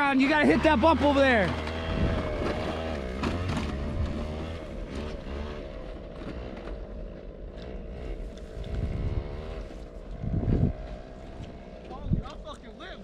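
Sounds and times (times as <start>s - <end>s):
moped engine revving: 0.0s - 13.0s.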